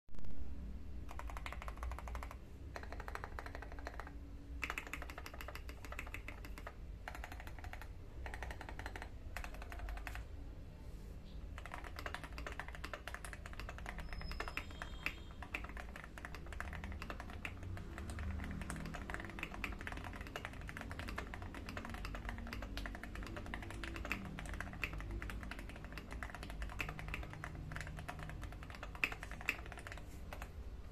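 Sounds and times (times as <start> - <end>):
mechanical keyboard key clacks: 1.1 - 10.2, 11.6 - 30.5.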